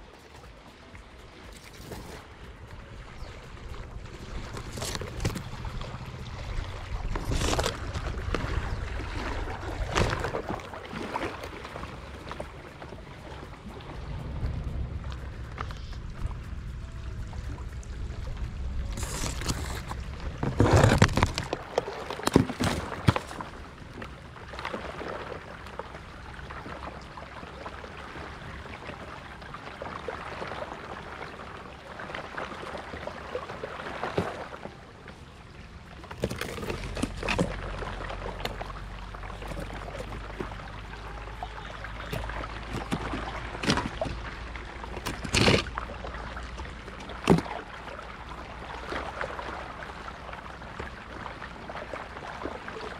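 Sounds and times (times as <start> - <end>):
water rushing around a boat: 0.0 - 52.9.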